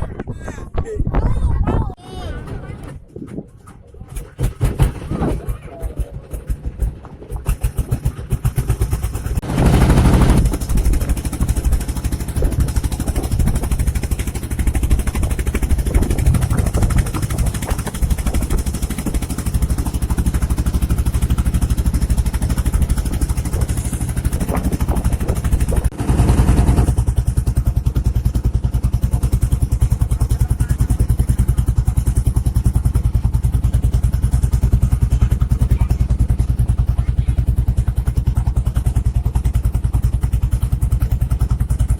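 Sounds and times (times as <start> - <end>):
small boat engine chugging: 1.8 - 41.9.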